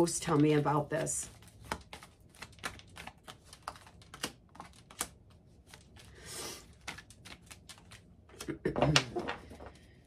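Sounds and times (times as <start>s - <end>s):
cards clicking and tapping: 1.2s - 9.7s.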